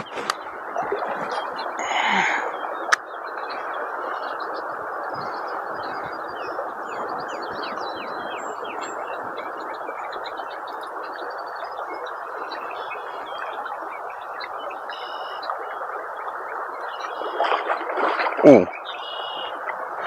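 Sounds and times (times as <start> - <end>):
small birds chirping: 0.0 - 17.4
river water rushing: 0.0 - 18.5.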